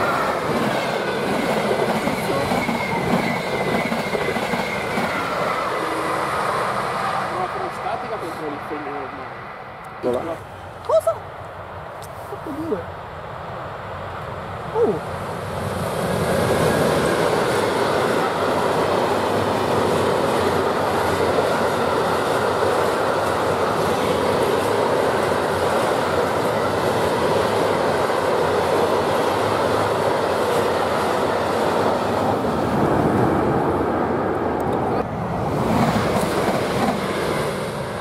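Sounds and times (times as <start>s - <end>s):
freight train wheels on rails: 0.0s - 10.4s, 13.3s - 38.0s.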